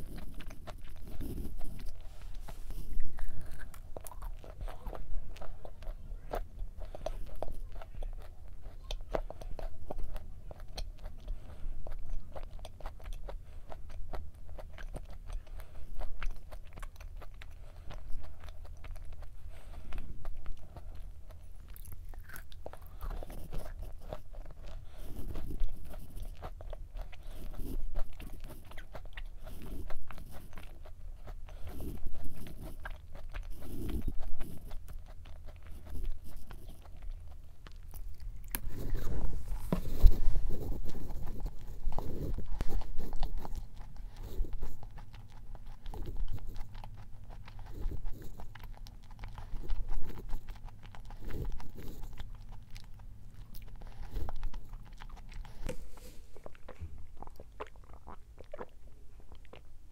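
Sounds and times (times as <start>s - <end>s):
crunchy cookie chewing: 0.0s - 59.9s.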